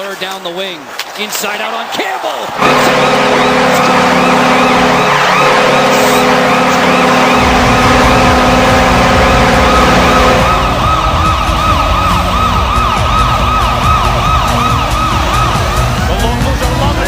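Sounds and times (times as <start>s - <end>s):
crowd noise: 0.0s - 17.0s
multi-tone goal horn blast: 2.6s - 16.3s
rising and falling siren wail: 2.6s - 17.0s.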